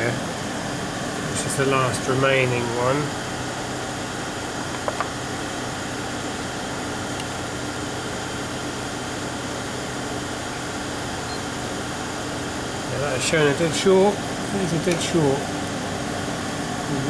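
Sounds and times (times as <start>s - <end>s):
machine hum with hiss: 0.0s - 17.0s.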